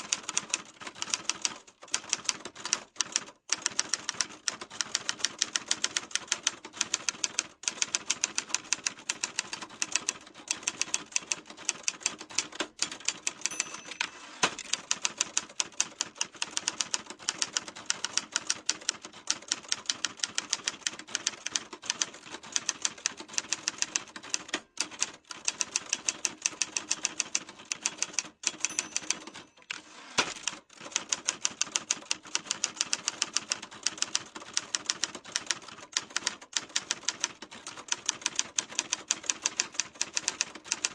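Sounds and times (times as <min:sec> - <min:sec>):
typewriter keys clacking: 0:00.0 - 0:40.9.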